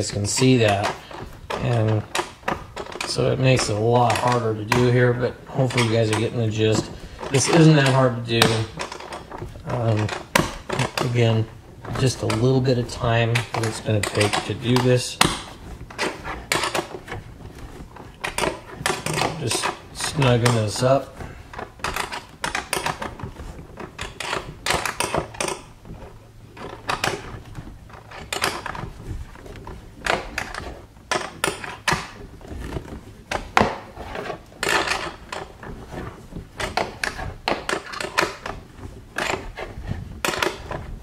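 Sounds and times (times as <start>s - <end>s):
hand ratchet clicking: 0.0s - 40.9s.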